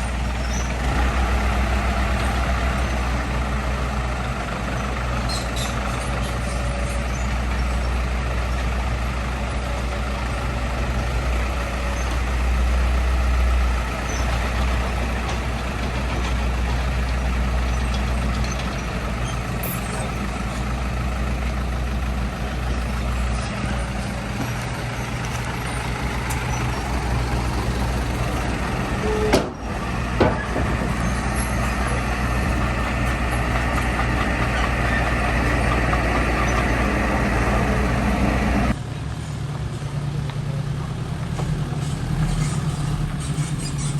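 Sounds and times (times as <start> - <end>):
heavy diesel engine rumbling: 0.0 - 43.9.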